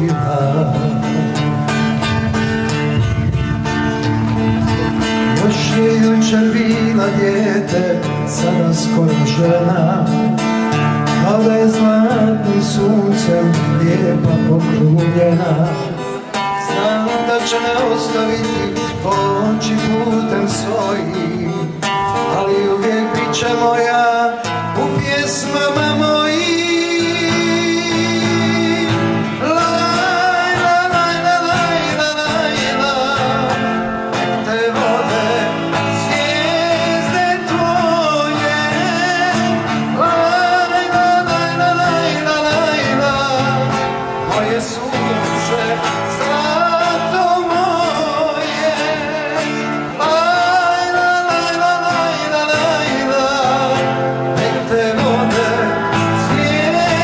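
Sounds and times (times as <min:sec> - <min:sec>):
man singing with vibrato: 0:00.0 - 0:57.0
strummed acoustic guitar: 0:00.0 - 0:57.0.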